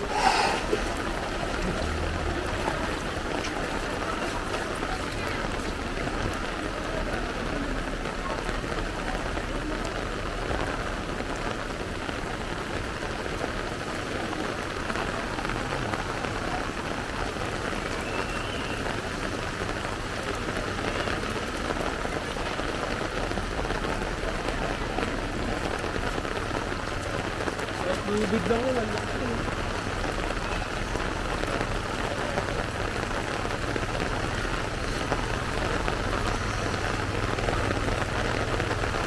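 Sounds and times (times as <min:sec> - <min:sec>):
heavy rain hissing: 0:00.0 - 0:39.0.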